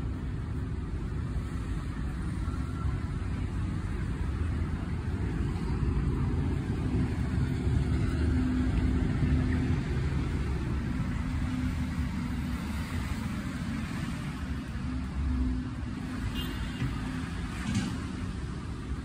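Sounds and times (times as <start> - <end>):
engine hum: 0.0 - 19.0
low rumble of road traffic: 0.0 - 19.0.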